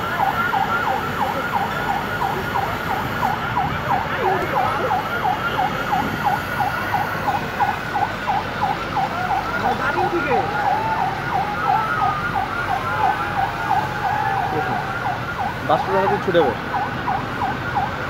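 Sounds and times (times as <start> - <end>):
emergency siren yelping: 0.0 - 18.0
steady background noise: 0.0 - 18.0.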